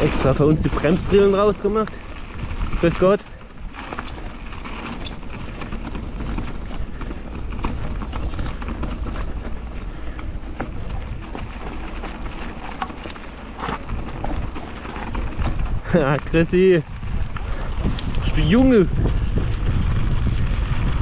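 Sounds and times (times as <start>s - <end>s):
bike clicks and rattles: 0.0s - 21.0s
bike tyres rumbling on gravel: 0.0s - 21.0s.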